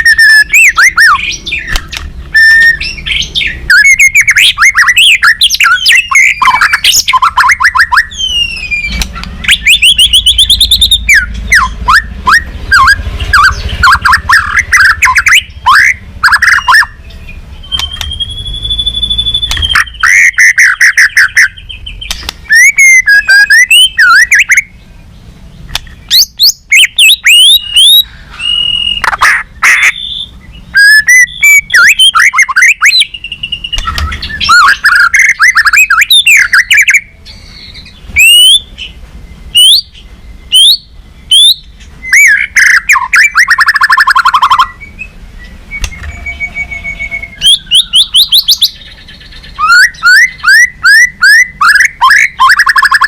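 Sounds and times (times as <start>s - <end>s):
bird singing whistled song: 0.0s - 29.2s, 29.8s - 53.0s.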